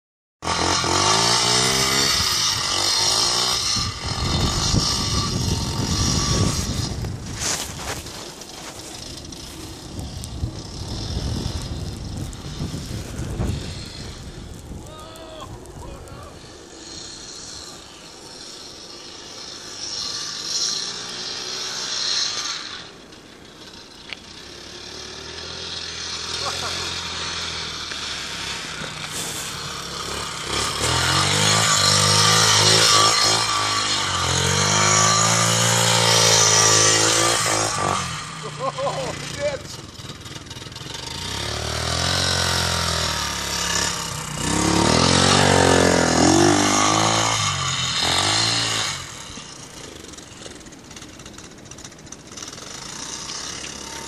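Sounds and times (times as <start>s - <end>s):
minibike engine revving: 0.4s - 54.0s.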